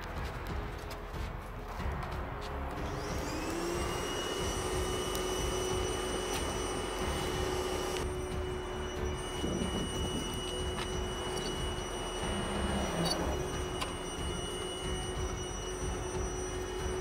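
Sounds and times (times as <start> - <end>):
electric air blower whining: 2.8 - 17.0.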